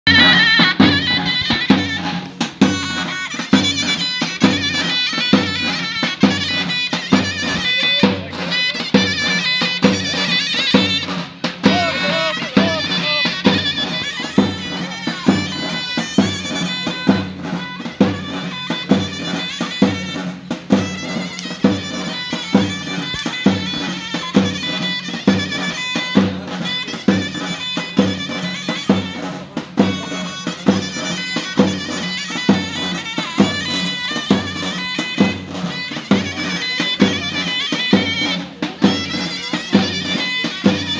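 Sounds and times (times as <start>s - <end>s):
drum beat: 0.1s - 40.9s
shrill double-reed melody: 0.1s - 40.9s.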